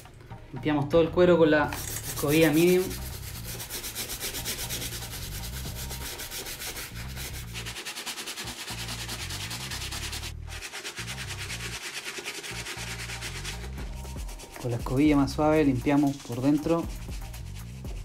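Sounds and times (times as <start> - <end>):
brush scrubbing wet leather: 1.8 - 18.0.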